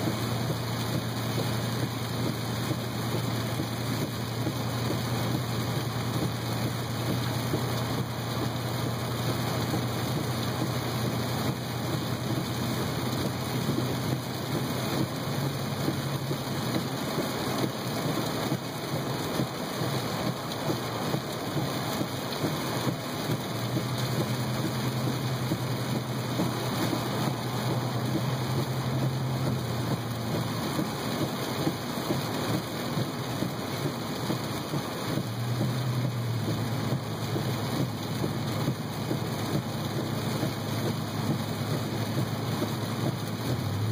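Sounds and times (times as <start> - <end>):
car engine and tyres hum: 0.0 - 43.9
heavy rain on car roof: 0.0 - 43.9.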